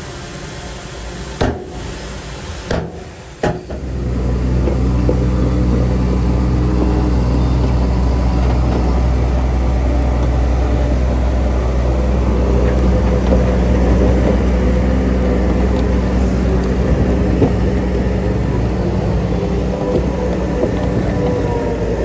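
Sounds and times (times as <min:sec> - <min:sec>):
heavy diesel engine under load: 0:00.0 - 0:22.0.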